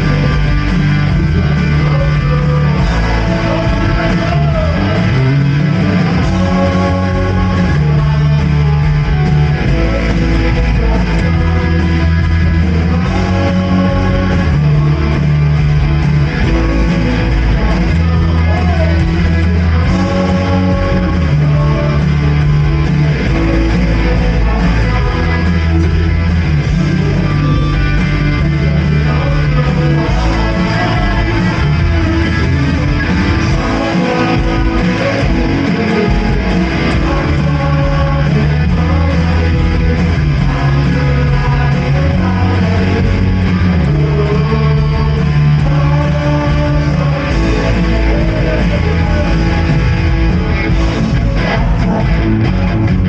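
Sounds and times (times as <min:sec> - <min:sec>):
bass: 0:00.0 - 0:53.0
guitar: 0:00.0 - 0:53.0
worship band playing: 0:00.0 - 0:53.0.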